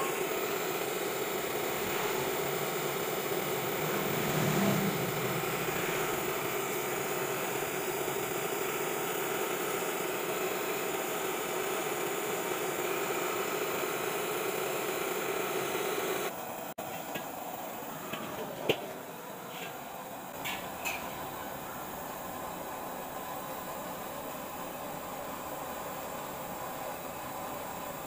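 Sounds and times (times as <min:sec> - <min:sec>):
gas burner hissing: 0:00.0 - 0:28.0.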